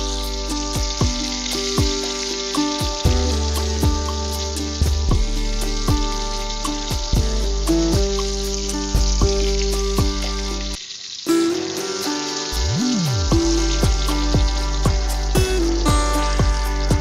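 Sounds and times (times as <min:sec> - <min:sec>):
background music with bass drops: 0:00.0 - 0:10.8, 0:12.5 - 0:17.0
fish sizzling in hot oil: 0:00.0 - 0:17.0.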